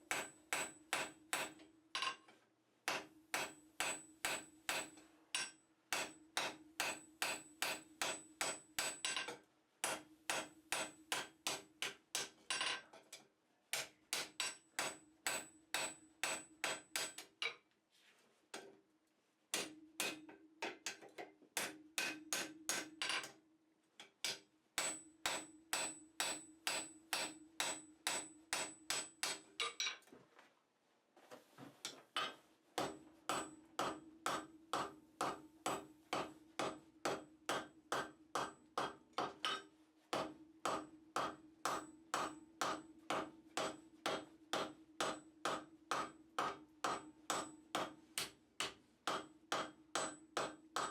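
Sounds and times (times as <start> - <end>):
hammer striking steel on anvil: 0.1 - 2.2, 2.9 - 12.7, 13.8 - 17.3, 19.6 - 20.3, 21.6 - 23.3, 24.2 - 29.8, 32.2 - 50.9.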